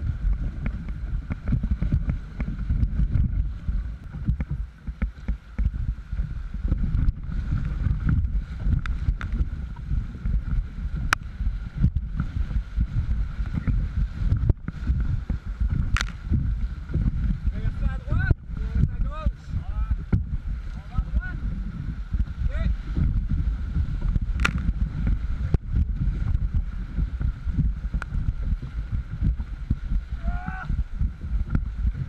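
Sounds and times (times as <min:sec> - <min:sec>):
paddle in water: 0:00.0 - 0:32.0
river water splashing against boat: 0:00.0 - 0:32.0
wind rumble on microphone: 0:00.0 - 0:32.0.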